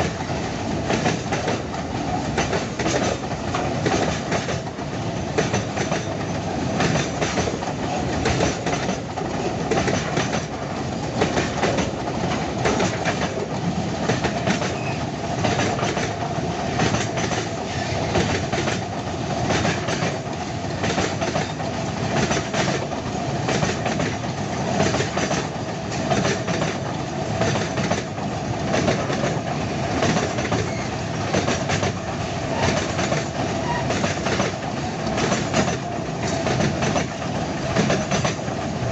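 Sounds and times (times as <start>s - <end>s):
wagon wheels clacking on rails: 0.0s - 38.9s.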